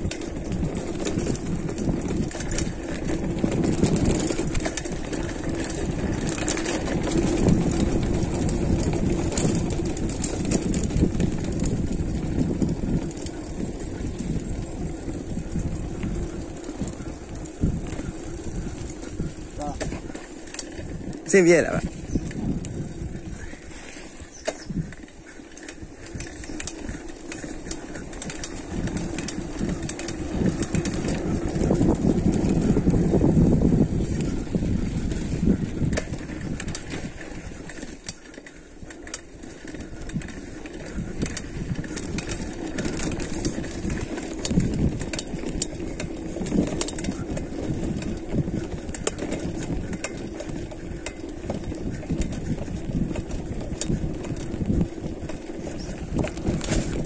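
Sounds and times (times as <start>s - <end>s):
bike frame and chain rattling: 0.0s - 57.0s.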